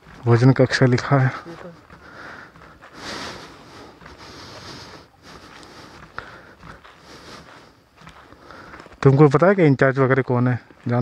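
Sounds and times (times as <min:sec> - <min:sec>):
faint outdoor background noise: 0:00.0 - 0:11.0
footsteps on dirt and gravel: 0:00.0 - 0:11.0.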